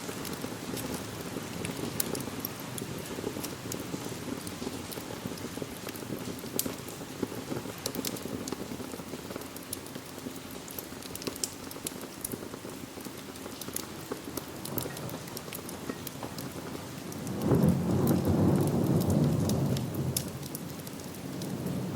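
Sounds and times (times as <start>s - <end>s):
steady rain: 0.0s - 21.9s
wood fire crackling: 0.0s - 21.9s.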